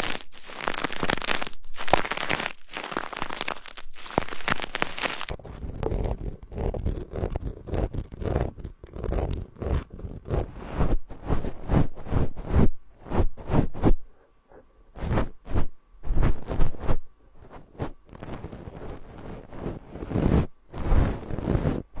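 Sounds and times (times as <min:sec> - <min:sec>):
scratchy brushing on microphone: 0:00.0 - 0:14.0, 0:15.0 - 0:22.0.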